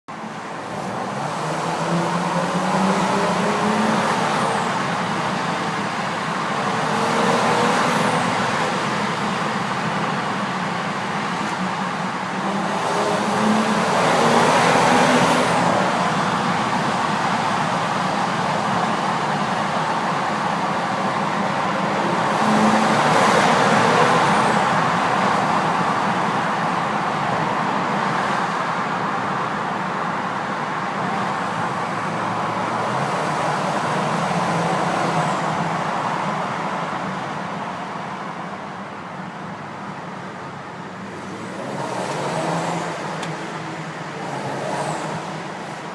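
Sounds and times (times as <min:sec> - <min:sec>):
road noise: 0:00.1 - 0:45.9.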